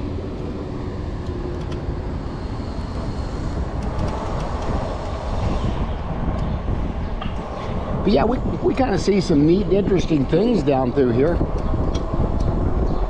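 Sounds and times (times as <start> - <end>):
e-bike road rumble: 0.0 - 13.0.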